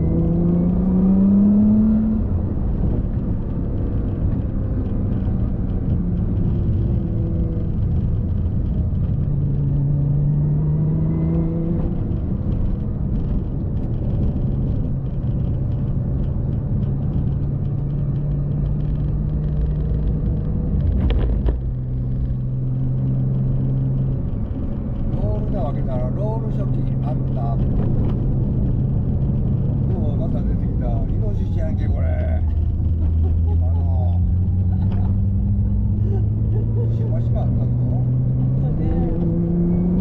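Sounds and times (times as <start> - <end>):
car engine hum: 0.0 - 40.0
road rumble: 0.0 - 40.0.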